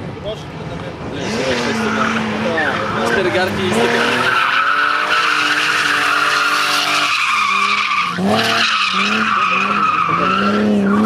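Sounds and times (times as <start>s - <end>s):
car engine revving: 1.1s - 11.0s
tyres squealing: 1.6s - 11.0s.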